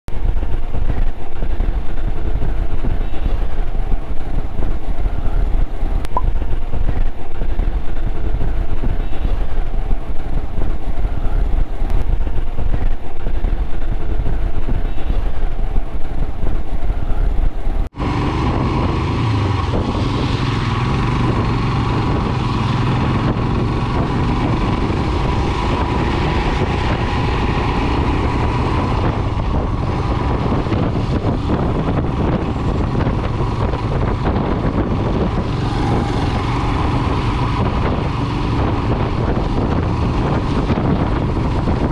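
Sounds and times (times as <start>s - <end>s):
motorcycle engine running: 0.1s - 41.9s
road noise: 0.1s - 41.9s.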